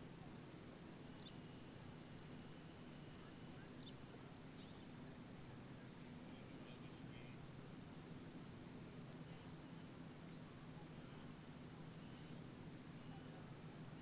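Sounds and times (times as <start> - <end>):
steady low hum: 0.0 - 14.0
faint high chirps: 0.9 - 14.0.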